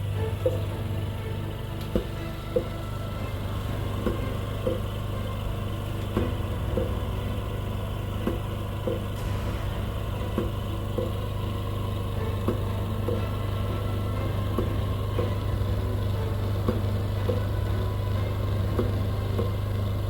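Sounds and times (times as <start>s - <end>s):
ventilator motor hum: 0.0s - 20.0s.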